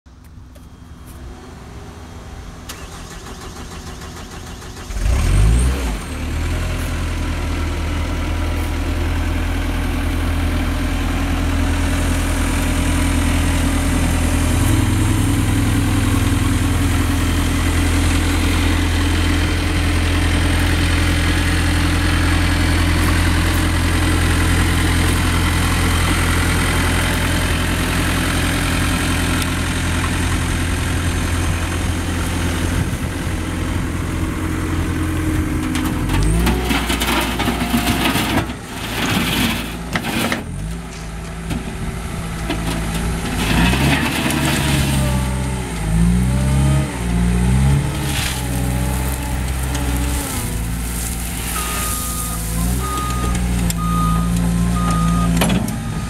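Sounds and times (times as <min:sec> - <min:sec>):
diesel engine cranking and idling: 0:00.1 - 0:56.0.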